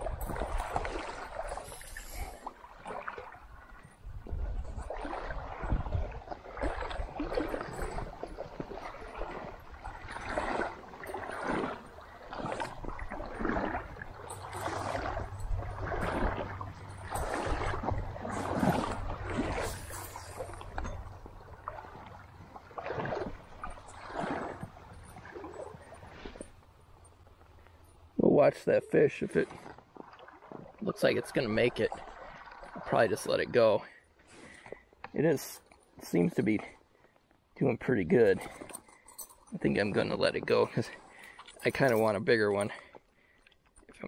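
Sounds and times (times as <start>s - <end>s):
legs wading through shallow water: 0.0s - 44.0s.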